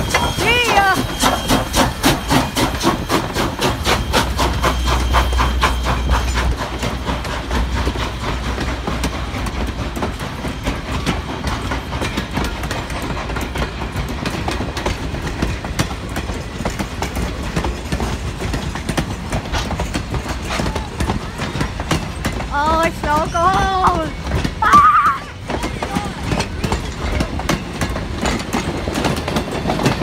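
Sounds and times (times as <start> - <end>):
steam locomotive exhaust beating: 0.0 - 30.0
train wheels clicking on rail joints: 0.0 - 30.0.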